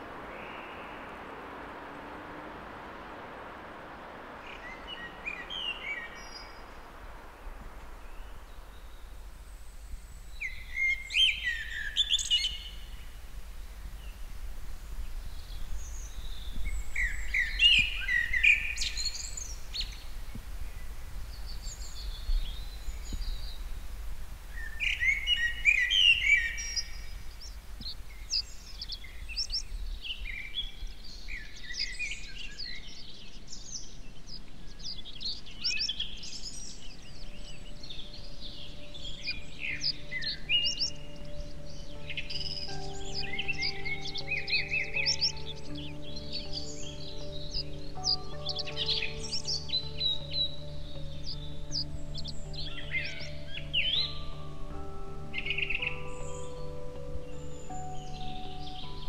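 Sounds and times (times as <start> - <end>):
faint low rumble: 0.0 - 59.0
songbird singing: 0.0 - 59.0.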